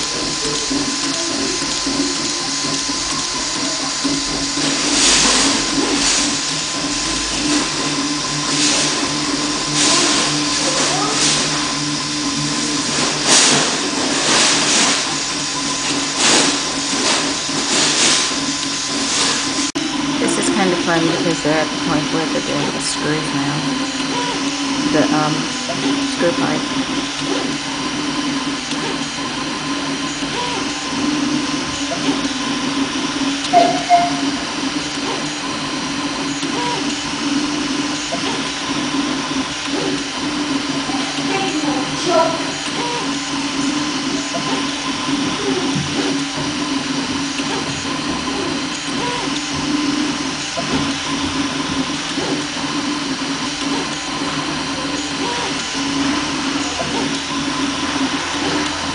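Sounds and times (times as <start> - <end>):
stepper motors whirring: 0.0 - 58.9.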